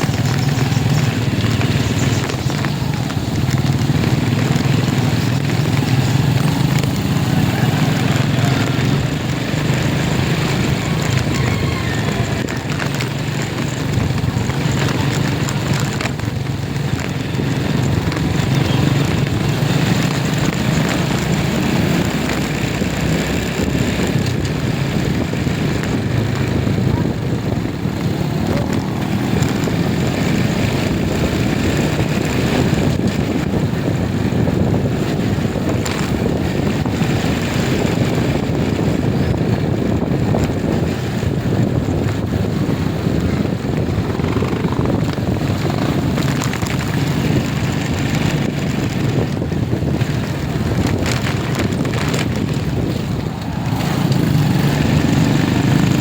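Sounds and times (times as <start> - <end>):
road noise: 0.0 - 56.0
vehicle engine: 0.0 - 56.0.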